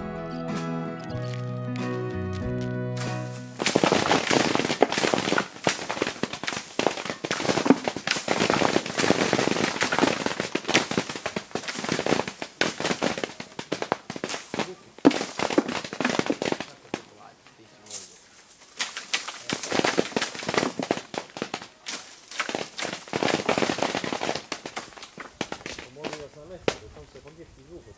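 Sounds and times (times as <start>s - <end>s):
plums falling onto plastic sheeting: 1.1s - 27.4s.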